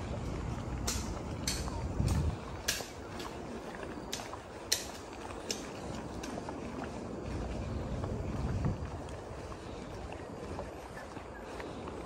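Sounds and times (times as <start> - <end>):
footsteps crunching on gravel: 0.0 - 12.0
outdoor background noise: 0.0 - 12.0.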